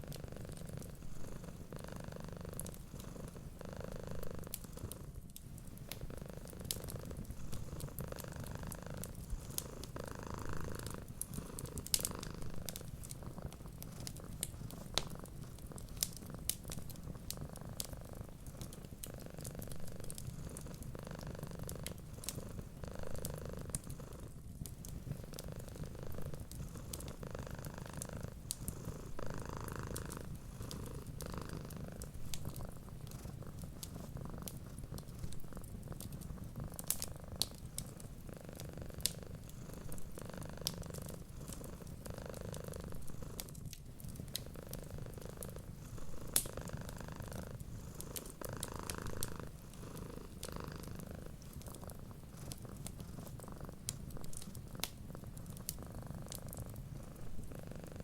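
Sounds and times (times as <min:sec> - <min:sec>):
cats purring: 0:00.0 - 0:58.0
wood fire crackling: 0:00.0 - 0:58.0.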